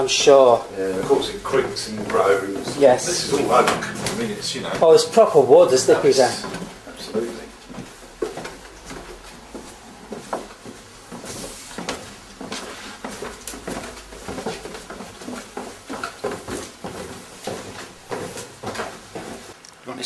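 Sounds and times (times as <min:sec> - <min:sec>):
footsteps on wooden floorboards: 0:00.0 - 0:19.6.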